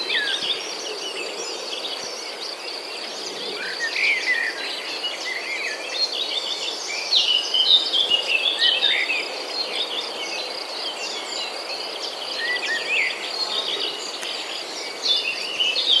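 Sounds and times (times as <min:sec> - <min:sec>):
birds chirping and twittering: 0:00.0 - 0:16.0.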